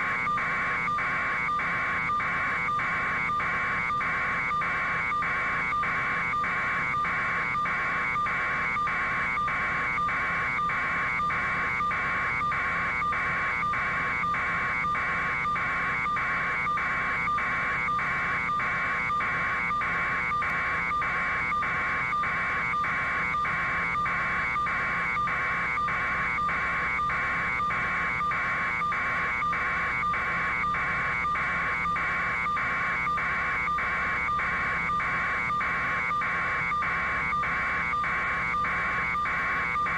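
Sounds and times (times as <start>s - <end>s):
pulsing electronic alarm: 0.0s - 39.9s.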